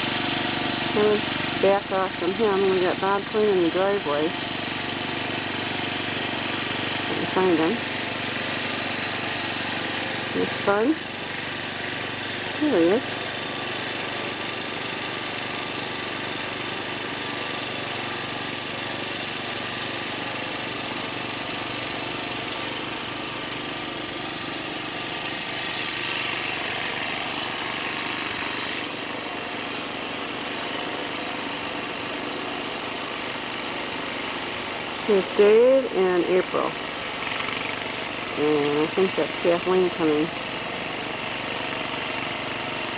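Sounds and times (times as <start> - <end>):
snowblower engine running: 0.0 - 42.9.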